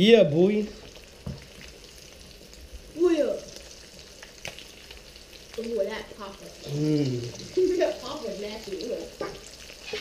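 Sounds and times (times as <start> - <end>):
fish frying in hot oil: 0.0 - 10.0.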